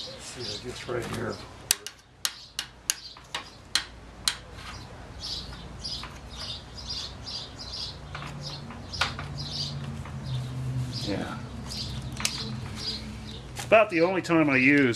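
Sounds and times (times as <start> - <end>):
bird chirping: 0.0 - 14.9.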